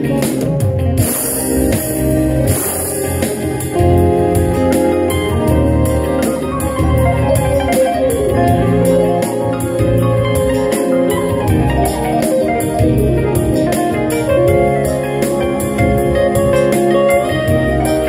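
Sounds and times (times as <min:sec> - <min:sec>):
keyboard notes: 0:00.0 - 0:18.0
steady beat: 0:00.0 - 0:18.0.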